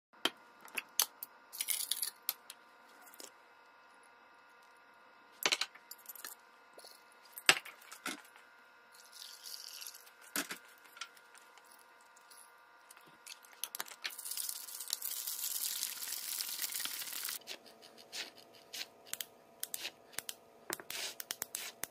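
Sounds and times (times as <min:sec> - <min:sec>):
faint steady hum: 0:00.2 - 0:21.9.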